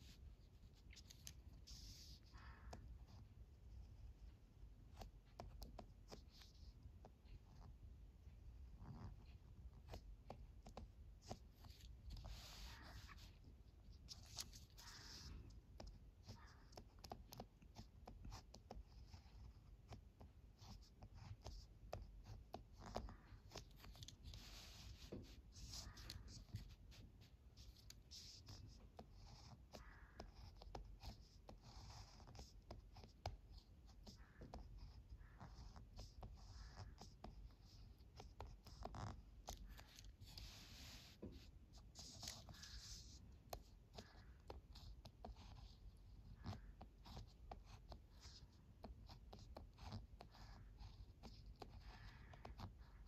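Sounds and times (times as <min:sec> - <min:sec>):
pen scratching on paper: 0:00.0 - 0:04.2, 0:04.9 - 0:07.8, 0:08.6 - 0:53.0.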